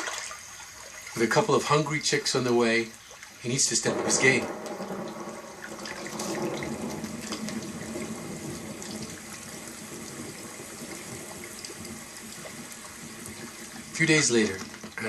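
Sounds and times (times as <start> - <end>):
running water with splashes: 0.0 - 15.0.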